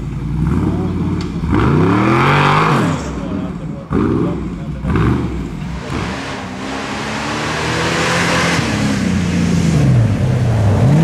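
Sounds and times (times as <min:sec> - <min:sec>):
jeep engine revving: 0:00.0 - 0:11.0.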